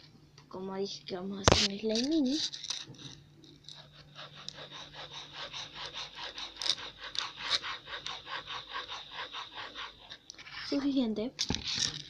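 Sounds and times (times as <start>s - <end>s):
rapid rhythmic scraping: 1.5s - 12.0s.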